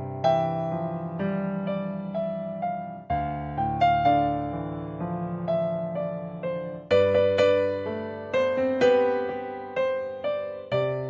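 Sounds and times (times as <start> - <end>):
gentle electric piano melody: 0.0 - 11.0.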